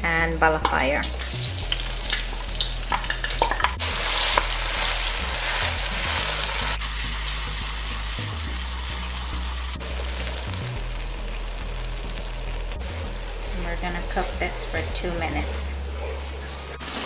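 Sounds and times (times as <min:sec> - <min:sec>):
seasoning sizzling in hot oil: 0:00.4 - 0:17.0.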